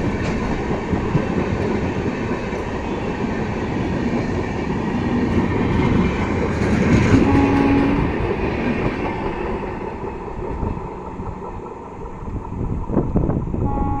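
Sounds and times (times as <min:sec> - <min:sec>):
train wheels clattering over rail joints: 0:00.0 - 0:13.4.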